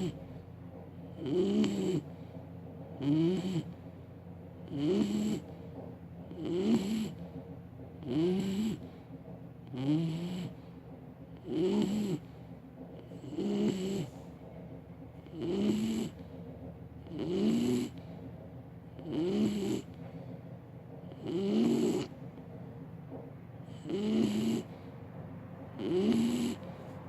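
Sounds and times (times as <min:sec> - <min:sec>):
dog snoring: 0:00.0 - 0:25.0, 0:25.6 - 0:27.0.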